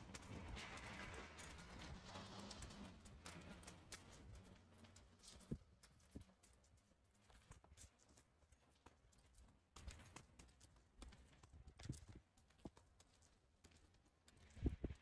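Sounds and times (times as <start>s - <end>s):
faint footsteps on pavement: 0.0s - 15.0s.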